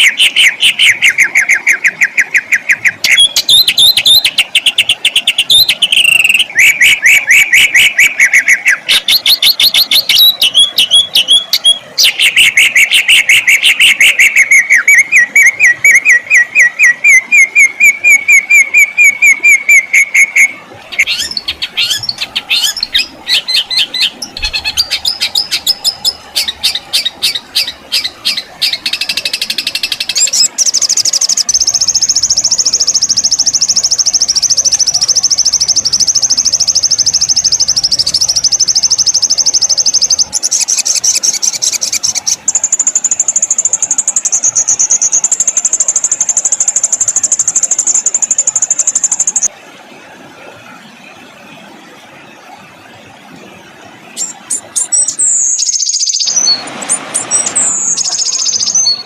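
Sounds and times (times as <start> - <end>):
songbirds singing: 0.0 - 49.5, 54.1 - 59.0.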